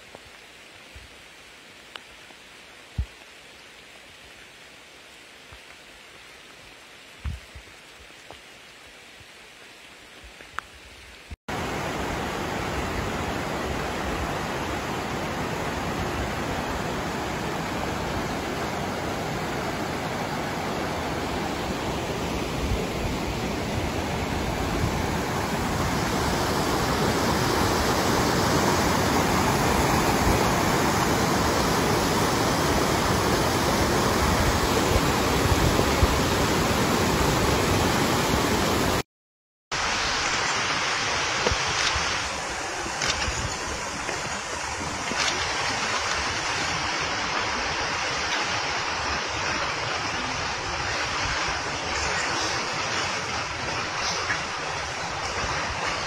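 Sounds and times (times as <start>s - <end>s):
river rushing over stones: 0.0s - 39.0s, 39.7s - 56.0s.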